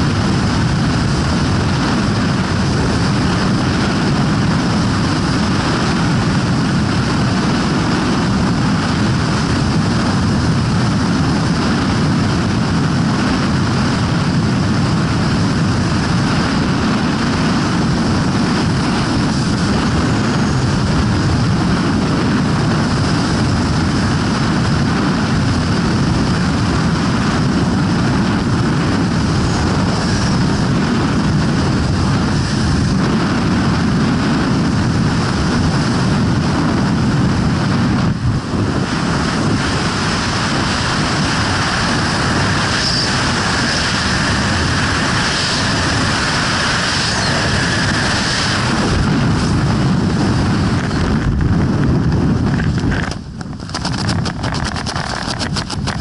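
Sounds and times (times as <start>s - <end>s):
freefall wind rushing: 0.0s - 56.0s.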